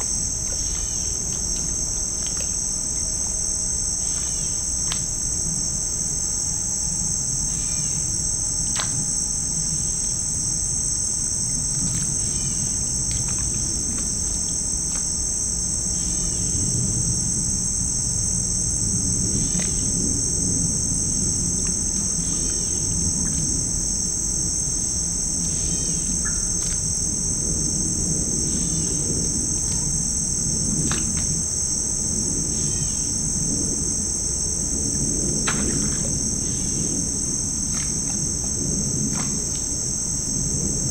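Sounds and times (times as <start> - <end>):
crickets trilling: 0.0 - 40.9
low rumbling background: 0.0 - 40.9.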